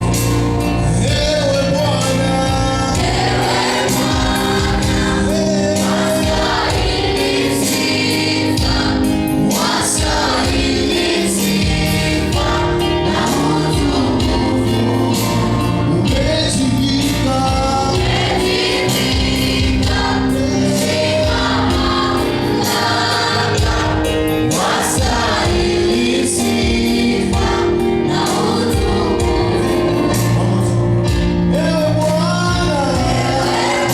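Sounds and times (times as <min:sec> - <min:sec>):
choir singing gospel: 0:00.0 - 0:33.9.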